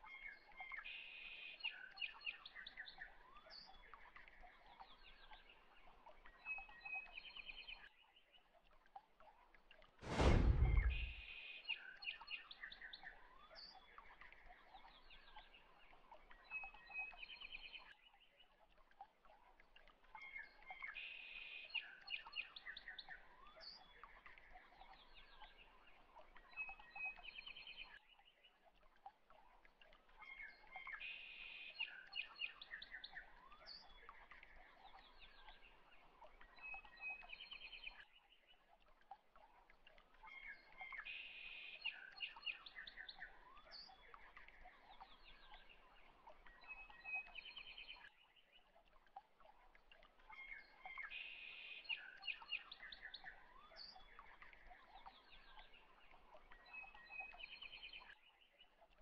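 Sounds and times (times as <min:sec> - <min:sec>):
faint birdsong: 0:00.0 - 0:09.1, 0:10.2 - 0:59.0.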